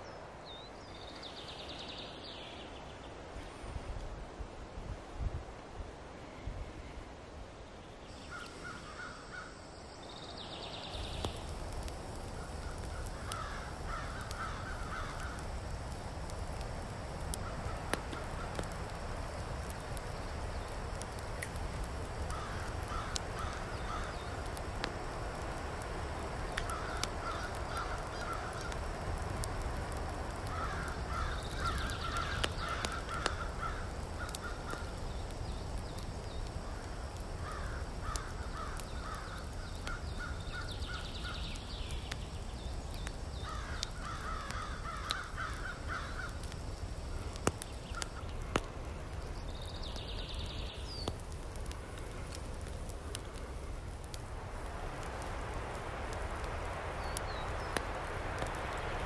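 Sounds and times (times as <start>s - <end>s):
twig fire crackling: 7.1s - 59.0s.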